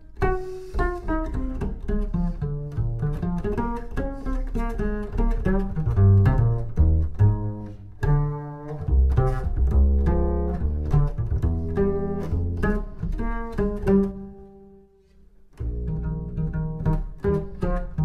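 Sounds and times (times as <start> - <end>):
double bass plucked jazz notes: 0.0 - 18.0.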